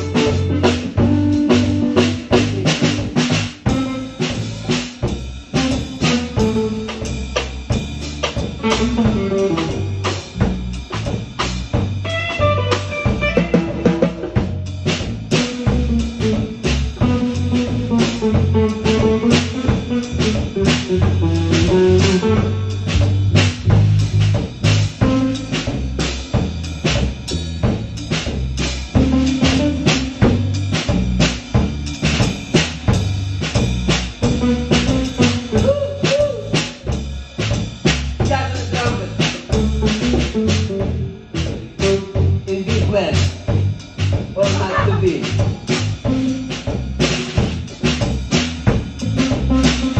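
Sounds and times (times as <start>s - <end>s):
band playing: 0.0s - 49.9s
drum kit beat: 0.0s - 49.9s.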